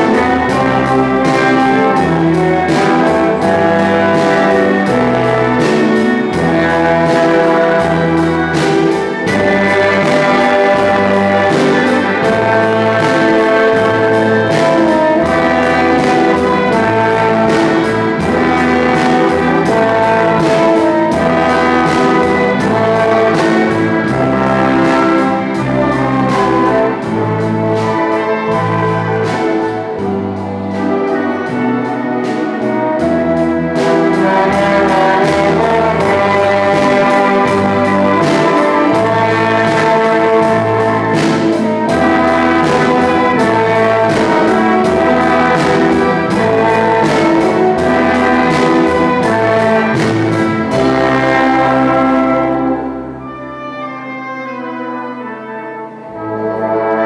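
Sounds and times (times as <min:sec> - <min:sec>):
steady beat: 0:00.0 - 0:53.2
brass and saxophones: 0:00.0 - 0:57.0
violins: 0:00.0 - 0:57.0.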